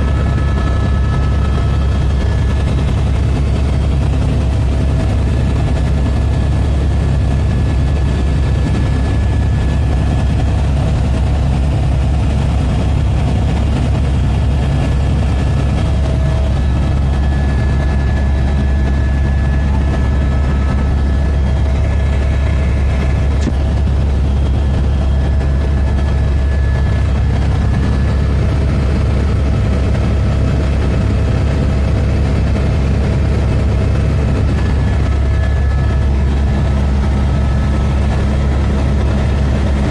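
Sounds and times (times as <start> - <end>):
helicopter rotor drone: 0.0 - 39.9
thin steady whines: 0.0 - 39.9.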